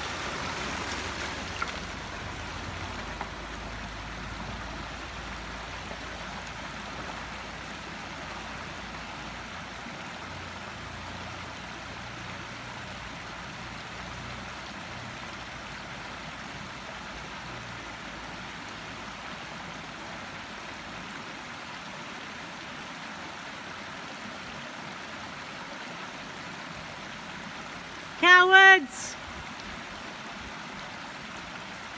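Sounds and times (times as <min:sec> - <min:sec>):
river water rushing: 0:00.0 - 0:31.9.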